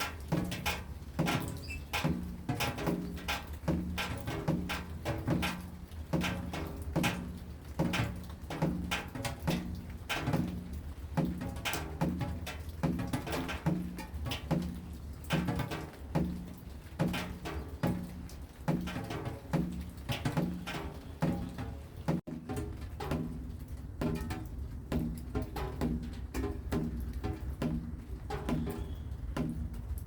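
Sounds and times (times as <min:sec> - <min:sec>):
rhythmic tapping with low tone: 0:00.0 - 0:30.0.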